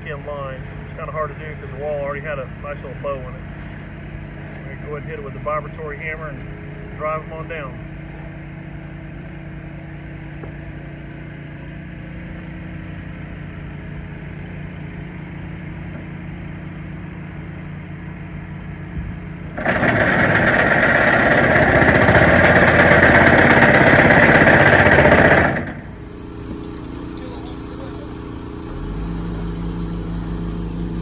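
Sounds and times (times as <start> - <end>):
excavator diesel engine running: 0.0 - 31.0
vibratory pile hammer rattling buzz: 0.1 - 31.0.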